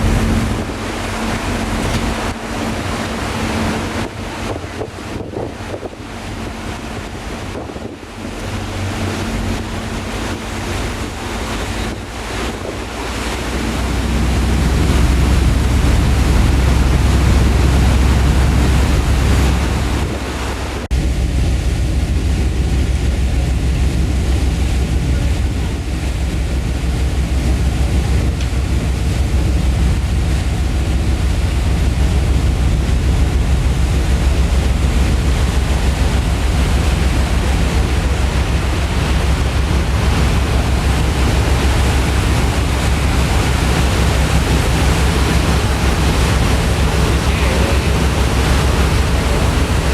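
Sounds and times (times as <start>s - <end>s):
ferry engine rumble: 0.0s - 49.9s
sea rushing: 0.0s - 49.9s
wind buffeting microphone: 0.0s - 49.9s.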